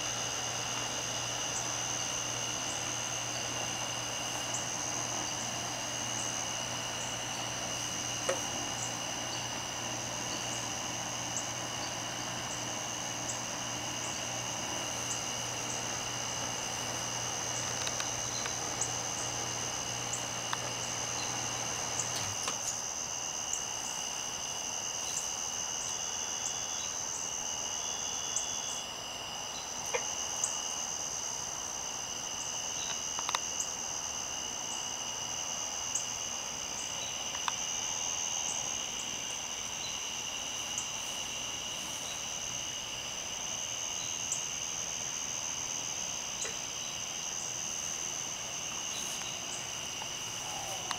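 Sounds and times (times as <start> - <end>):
insect trill: 0.0 - 50.9
low steady hum: 0.0 - 50.9.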